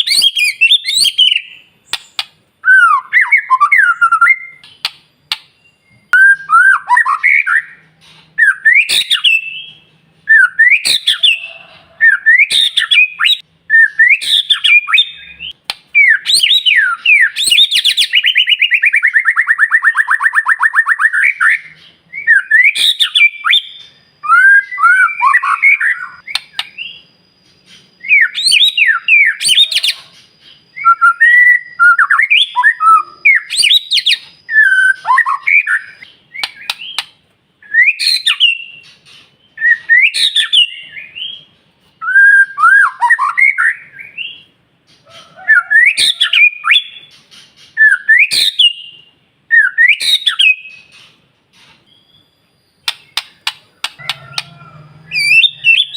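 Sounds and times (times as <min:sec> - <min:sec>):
bird singing whistled phrases: 0:00.0 - 0:04.9, 0:05.5 - 0:07.8, 0:08.4 - 0:44.5, 0:45.4 - 0:51.0, 0:51.9 - 0:55.9.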